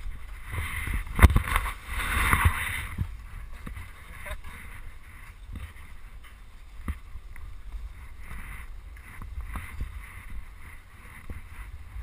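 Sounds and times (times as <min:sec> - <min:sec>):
snowboard scraping on snow: 0:00.0 - 0:06.1, 0:06.8 - 0:12.0
wind rumbling on microphone: 0:00.0 - 0:12.0.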